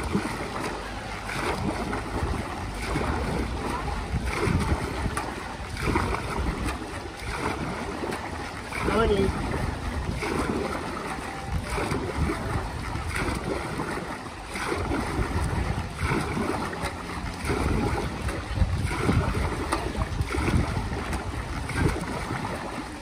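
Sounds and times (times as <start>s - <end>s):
paddle splashing through water: 0.0s - 23.0s.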